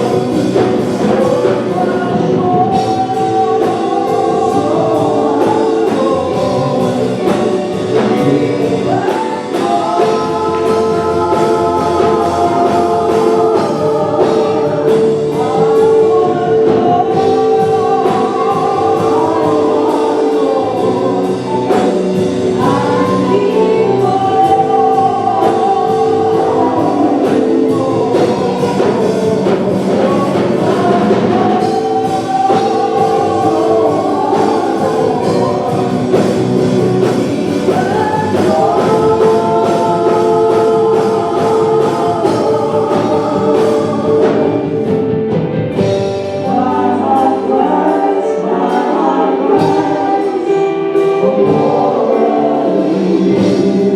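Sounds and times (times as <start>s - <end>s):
band with drums: 0.0s - 53.9s
gospel choir singing: 0.0s - 53.9s.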